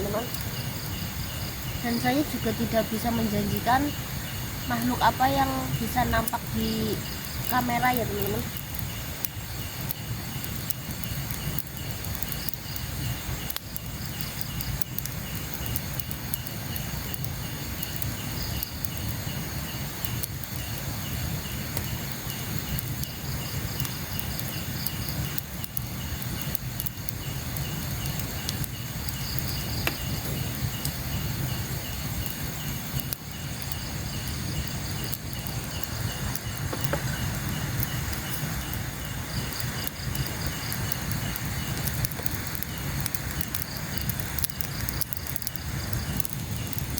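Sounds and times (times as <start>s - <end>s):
higher insect trill: 0.0s - 46.9s
night insects trilling: 0.0s - 46.9s
faint ticks: 6.1s - 19.2s, 20.0s - 31.0s, 31.8s - 46.9s.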